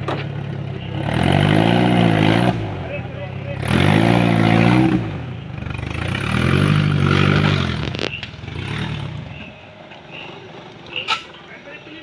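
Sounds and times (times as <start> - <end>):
vehicle engine revving: 0.0 - 11.4.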